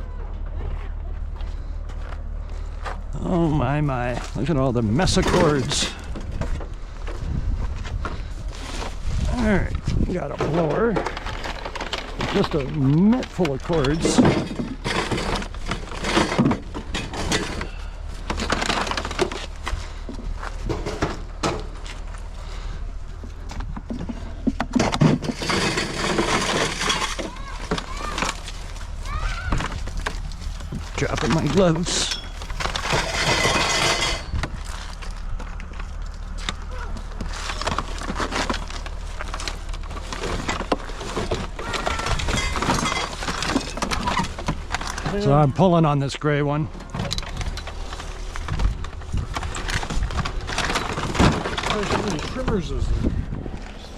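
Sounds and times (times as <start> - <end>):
clatter of junk being handled: 3.9 - 45.7, 46.6 - 53.9.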